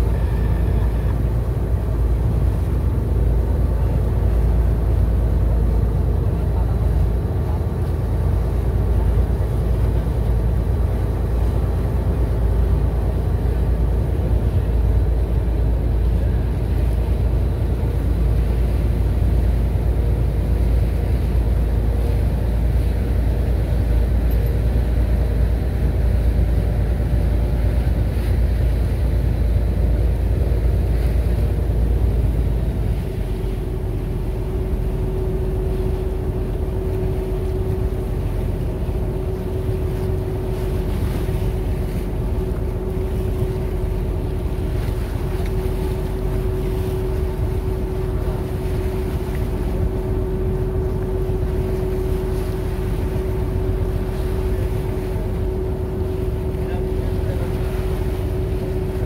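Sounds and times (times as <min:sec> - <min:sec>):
ferry engine low rumbling drone: 0:00.0 - 0:59.0.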